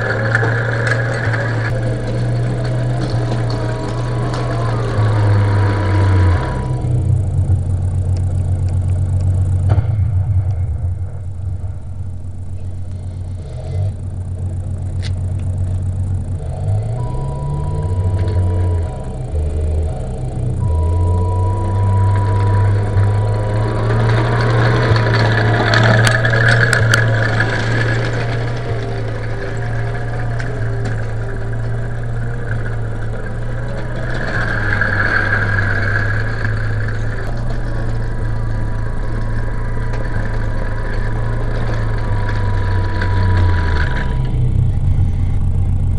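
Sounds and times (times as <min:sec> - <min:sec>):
higher whine: 0:00.0 - 0:45.9
simulated tank engine through loudspeaker: 0:00.0 - 0:45.9.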